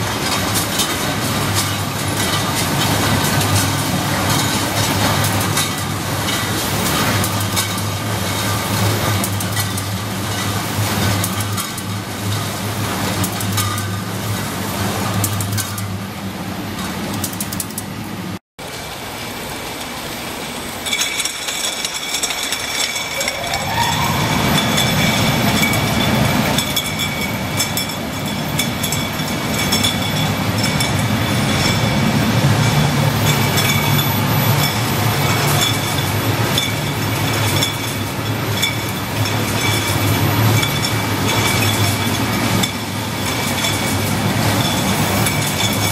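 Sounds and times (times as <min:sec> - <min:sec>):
packing machine hum and rattle: 0:00.0 - 0:45.9.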